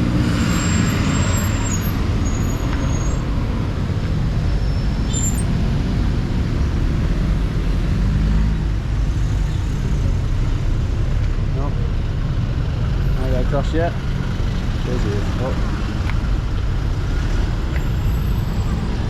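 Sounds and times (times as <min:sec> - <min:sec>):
heavy road traffic: 0:00.0 - 0:19.0.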